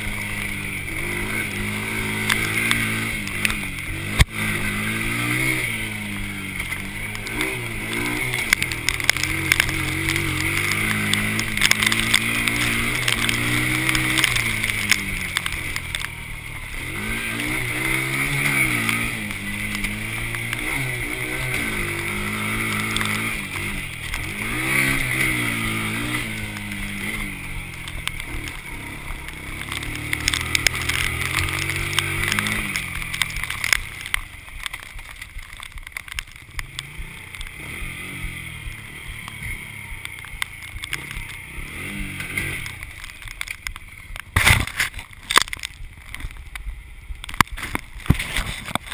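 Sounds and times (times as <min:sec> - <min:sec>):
quad engine revving: 0:00.0 - 0:34.8, 0:36.5 - 0:43.6.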